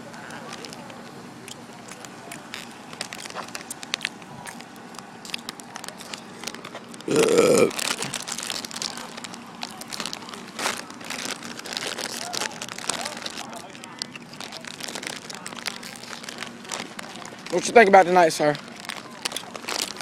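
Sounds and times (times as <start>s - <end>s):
crinkling rustle with clicks: 0.0s - 20.0s.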